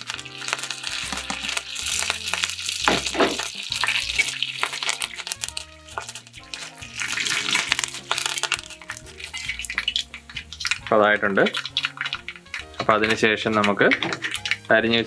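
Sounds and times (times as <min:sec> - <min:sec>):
metal spoon stirring: 0:00.0 - 0:14.8
background music: 0:00.0 - 0:15.0
chillies sizzling in hot oil: 0:00.0 - 0:15.0.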